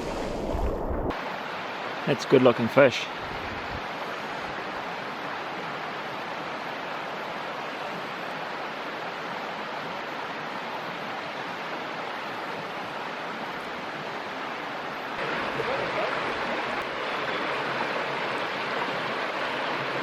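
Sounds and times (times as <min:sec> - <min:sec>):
stream running over stones: 0:00.0 - 0:20.0.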